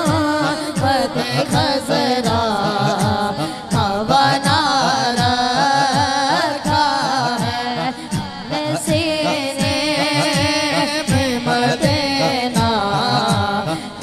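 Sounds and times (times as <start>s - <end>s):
boy singing into a microphone: 0.0s - 14.0s.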